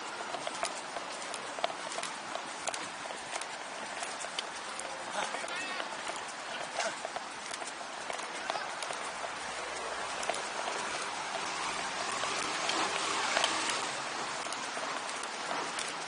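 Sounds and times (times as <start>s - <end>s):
footsteps of running crowd on road: 0.0s - 16.0s.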